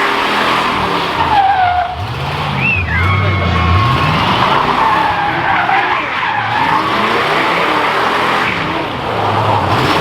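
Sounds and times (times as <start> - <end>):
car engine revving: 0.0 - 10.0
tyres squealing on pavement: 1.0 - 10.0.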